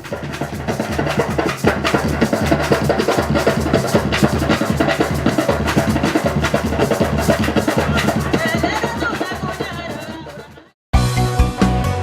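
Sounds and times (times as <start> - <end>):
fast busy percussion: 0.0 - 12.0.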